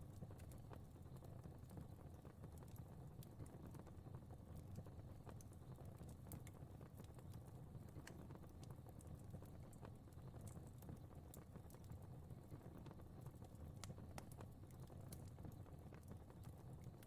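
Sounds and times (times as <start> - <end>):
low rumble of burning: 0.0 - 17.0.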